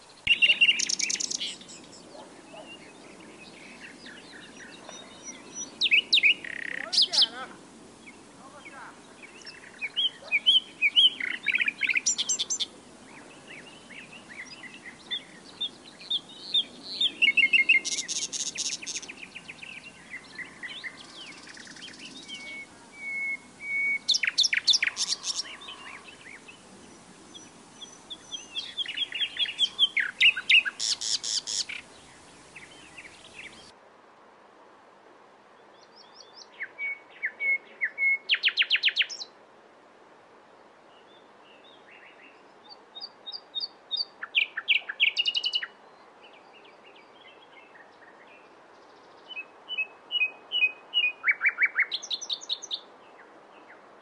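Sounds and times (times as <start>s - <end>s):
reed warbler singing: 0.0s - 33.7s, 35.7s - 39.3s, 40.9s - 53.8s.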